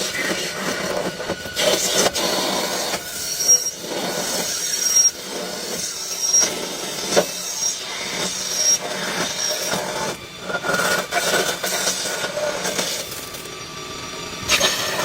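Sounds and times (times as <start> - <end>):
lathe tool squealing on steel: 0.0 - 13.6, 14.4 - 15.0.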